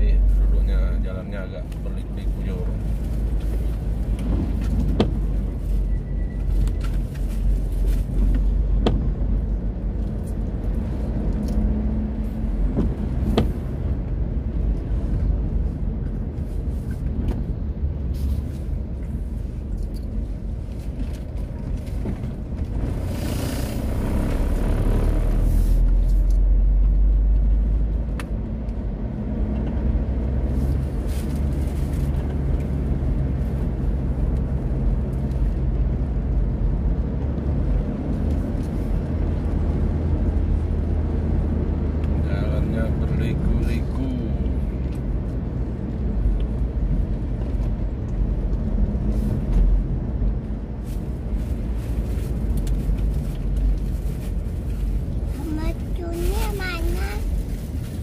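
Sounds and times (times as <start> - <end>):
car engine and tyres on wet road: 0.0 - 58.0.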